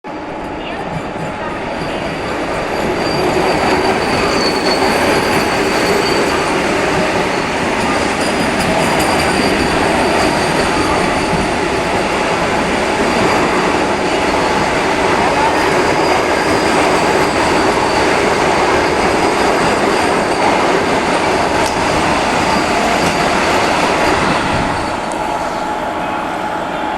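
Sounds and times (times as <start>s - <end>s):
train wheels rushing on rail: 0.1s - 26.9s.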